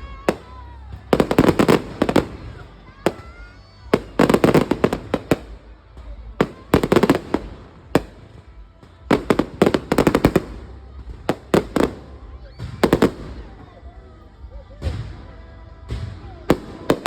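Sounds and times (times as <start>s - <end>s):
fireworks bangs: 0.0s - 13.9s, 14.8s - 17.0s.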